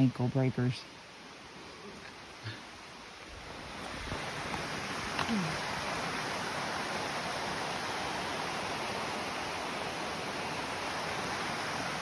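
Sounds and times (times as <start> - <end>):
flowing stream rushing: 0.8 - 12.0.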